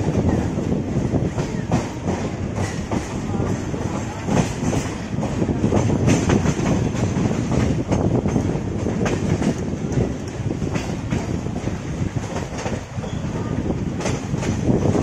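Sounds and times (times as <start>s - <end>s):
train coach rumble: 0.0s - 15.0s
wheels clattering over rail joints: 0.0s - 15.0s.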